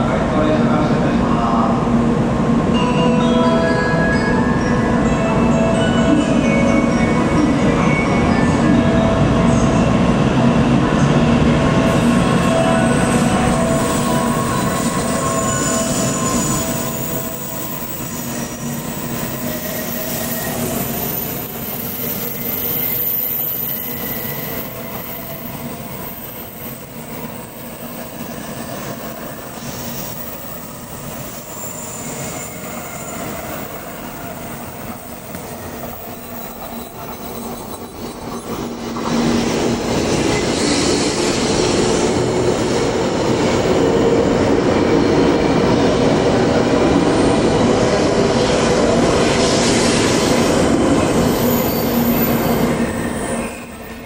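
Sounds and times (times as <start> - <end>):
train running gear whine: 0.0 - 54.0
train wheels rolling: 6.9 - 54.0.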